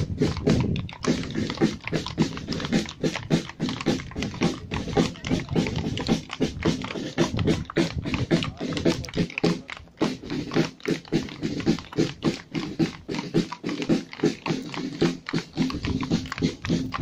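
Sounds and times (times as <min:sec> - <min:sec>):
horse hooves on cobblestones: 0:00.0 - 0:17.0.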